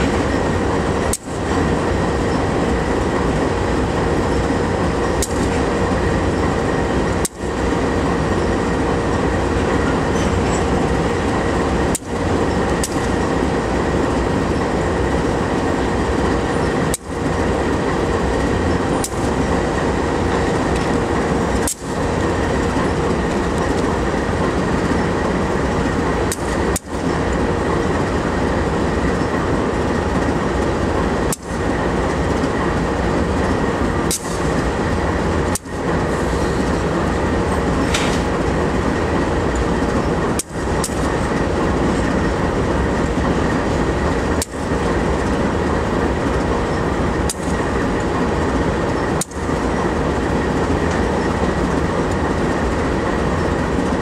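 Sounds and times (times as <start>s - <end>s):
freight train rumbling and rattling: 0.0s - 54.0s.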